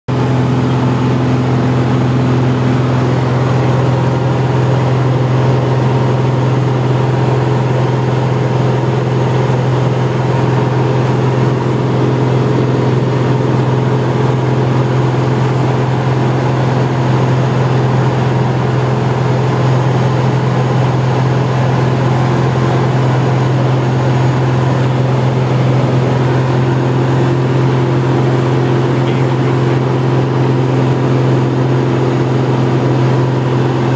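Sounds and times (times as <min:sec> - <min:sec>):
aircraft engine and propeller droning: 0:00.1 - 0:33.9.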